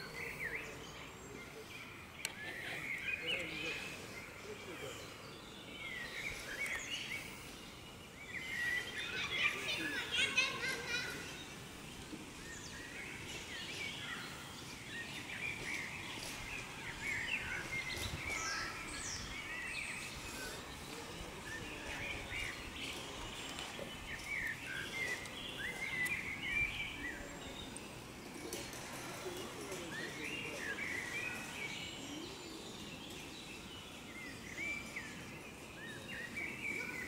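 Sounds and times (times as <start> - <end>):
birds chirping and trilling: 0.0 - 37.0
faint outdoor hiss: 0.0 - 37.0.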